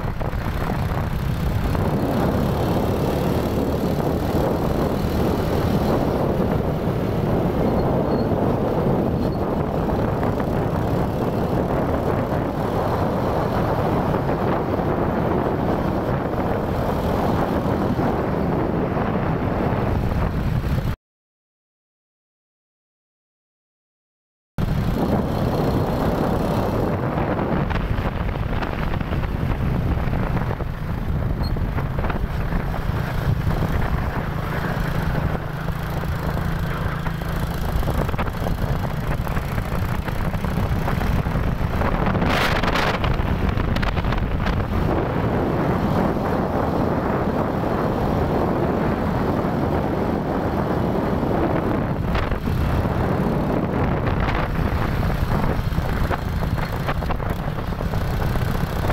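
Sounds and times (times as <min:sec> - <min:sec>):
small motorcycle running: 0:00.0 - 0:21.0, 0:24.6 - 0:58.9
wind buffeting microphone: 0:00.0 - 0:21.0, 0:24.6 - 0:58.9.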